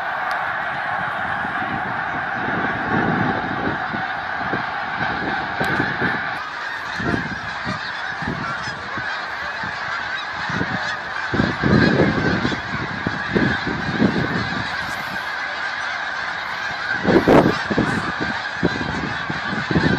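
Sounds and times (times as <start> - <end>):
geese honking: 0.0 - 19.9.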